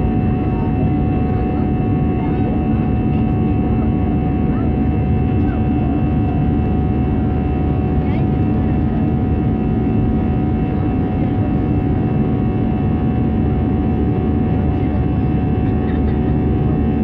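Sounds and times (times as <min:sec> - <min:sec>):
jet engine drone in cabin: 0:00.0 - 0:17.0.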